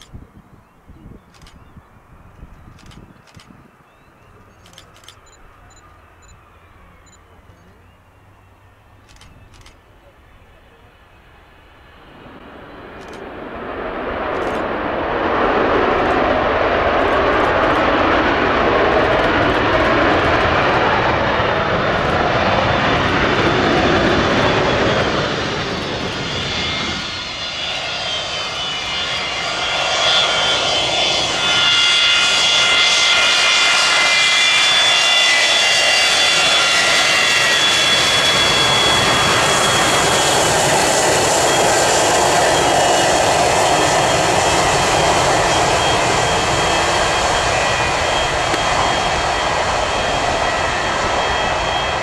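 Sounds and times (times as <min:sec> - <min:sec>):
high jet engine whine: 0:00.0 - 0:52.0
loud jet engine rumble: 0:00.0 - 0:52.0.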